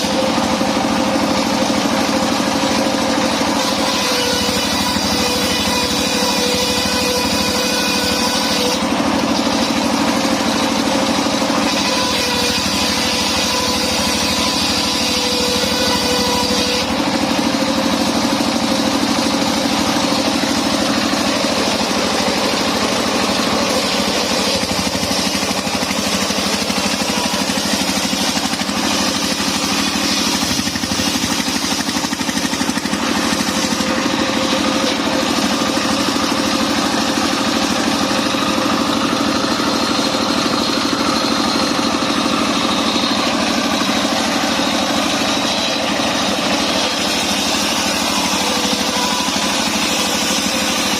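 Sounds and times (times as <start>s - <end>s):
portable sawmill running: 0.0s - 50.9s.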